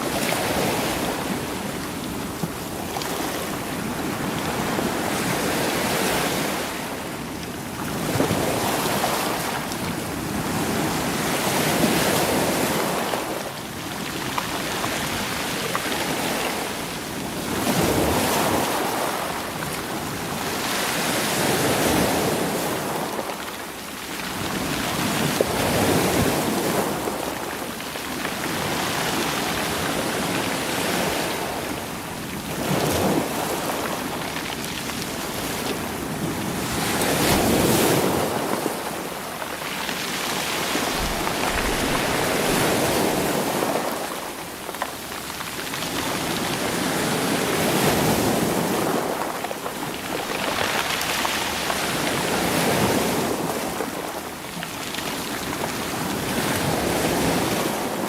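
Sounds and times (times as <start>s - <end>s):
sea waves over pebbles: 0.0s - 58.0s.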